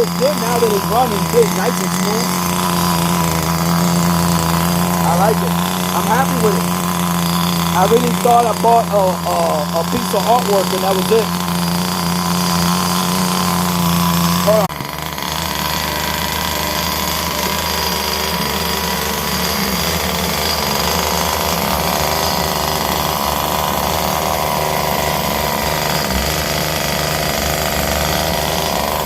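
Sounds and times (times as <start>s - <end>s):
small two-stroke engine buzzing: 0.0s - 29.0s.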